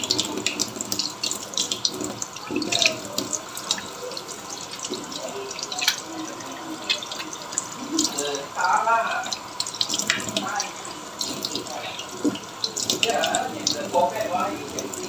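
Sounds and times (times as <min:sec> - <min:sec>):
tap water running into sink: 0:00.0 - 0:15.0
water splashes: 0:00.0 - 0:15.0.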